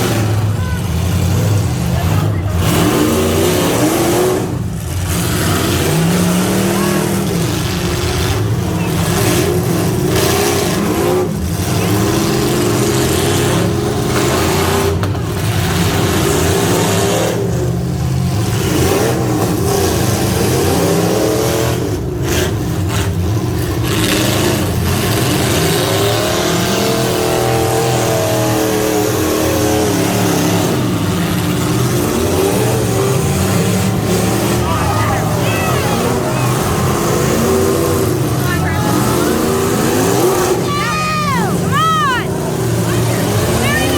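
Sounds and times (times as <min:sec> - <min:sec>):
pickup truck engine revving: 0:00.0 - 0:43.9.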